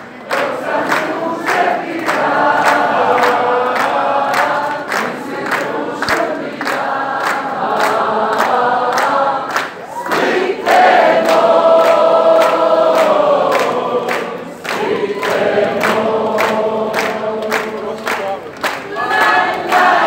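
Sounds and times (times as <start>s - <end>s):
crowd singing in chorus: 0.0s - 20.0s
people clapping in time: 0.0s - 20.0s.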